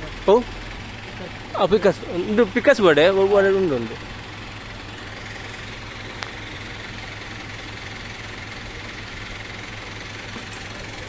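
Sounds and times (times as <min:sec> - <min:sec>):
crane engine humming: 0:00.0 - 0:11.0.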